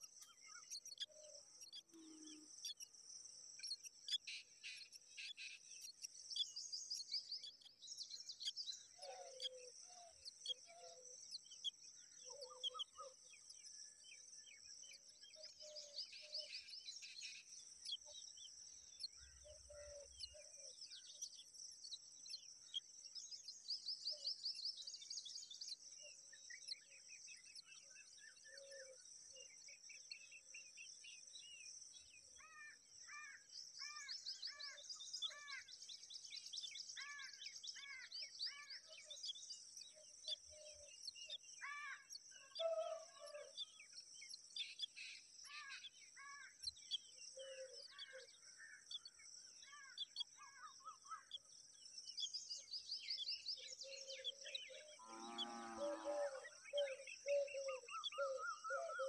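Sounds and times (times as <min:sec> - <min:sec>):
bird chirping: 0:00.0 - 0:03.0, 0:03.6 - 0:59.0.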